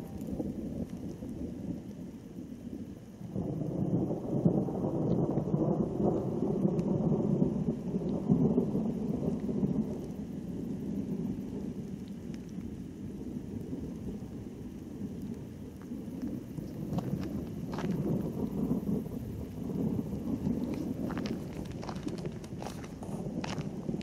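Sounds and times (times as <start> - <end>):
thunder rumbling: 0.0 - 24.0.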